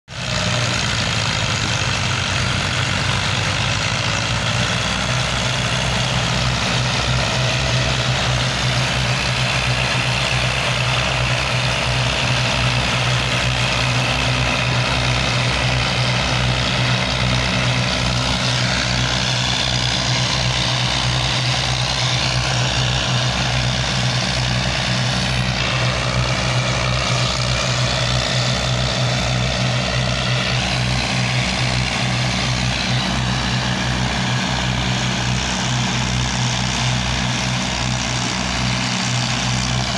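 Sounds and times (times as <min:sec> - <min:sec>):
tractor engines pulsing under load: 0:00.1 - 0:39.9.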